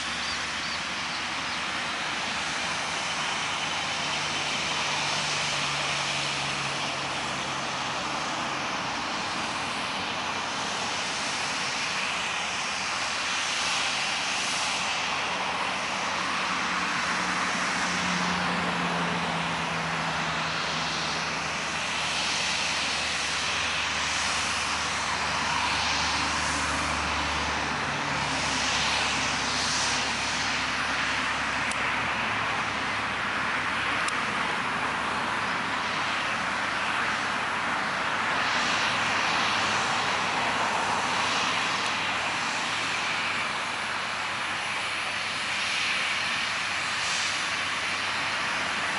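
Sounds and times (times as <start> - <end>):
aircraft engine rushing: 0.0 - 48.9
low engine hum: 0.0 - 48.9.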